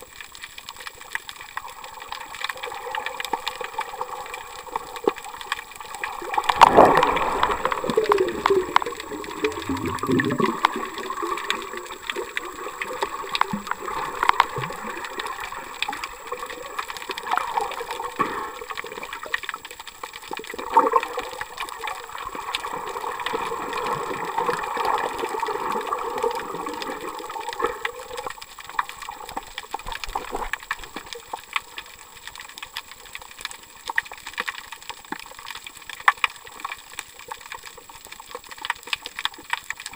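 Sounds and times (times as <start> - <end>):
small underwater clicks: 0.0 - 39.9
underwater water sloshing and gurgling: 0.0 - 39.9.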